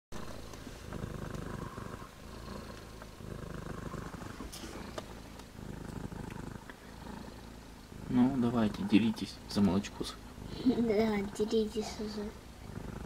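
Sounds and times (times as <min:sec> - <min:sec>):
cat purring: 0:00.2 - 0:13.0.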